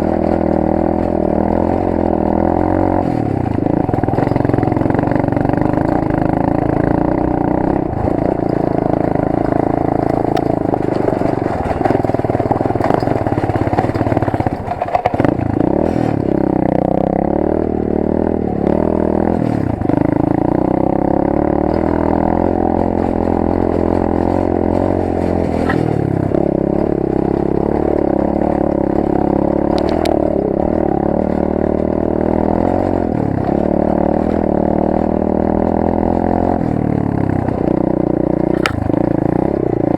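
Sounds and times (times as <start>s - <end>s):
engine clatter: 0.0s - 39.9s
motorbike engine revving: 0.0s - 39.9s.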